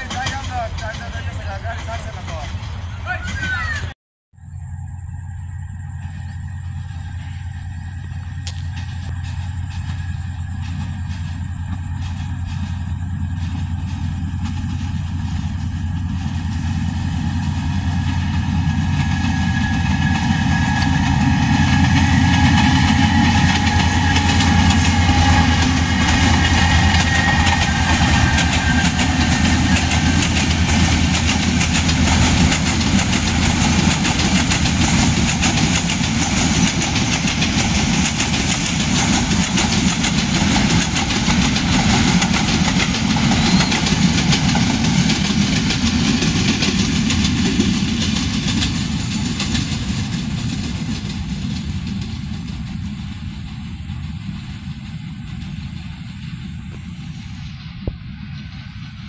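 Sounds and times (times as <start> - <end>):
train wheels clattering on rails: 0.0 - 3.9, 5.8 - 59.0
diesel locomotive engine hum: 0.0 - 59.0.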